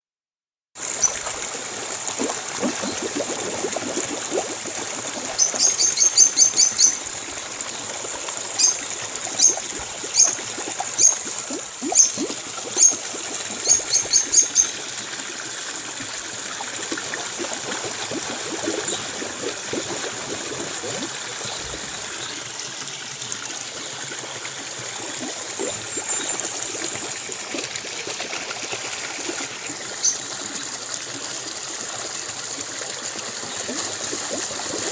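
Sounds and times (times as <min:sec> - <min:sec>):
trickling stream: 0:00.8 - 0:34.9.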